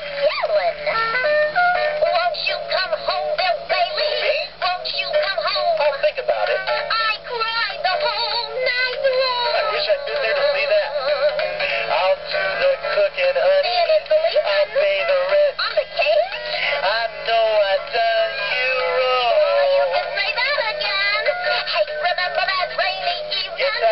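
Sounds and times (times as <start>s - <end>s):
thin backing track: 0.0s - 23.9s
synthesized parrot voices singing: 2.0s - 23.9s.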